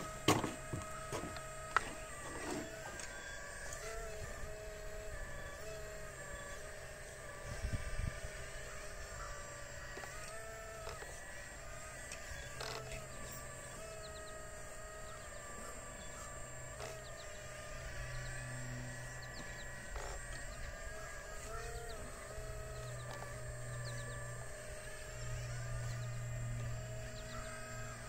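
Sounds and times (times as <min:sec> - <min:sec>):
model excavator motor whine: 0:00.0 - 0:28.0.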